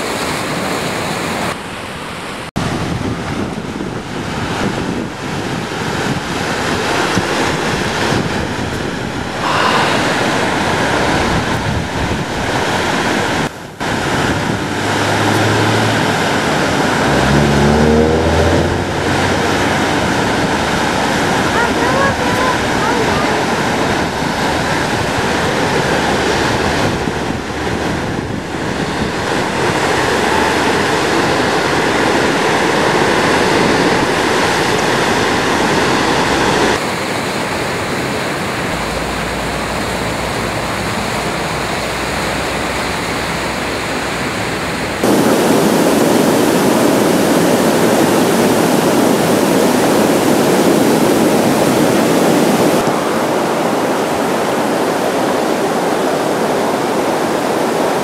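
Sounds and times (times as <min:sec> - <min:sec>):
river rapids roaring: 0:00.0 - 0:58.0.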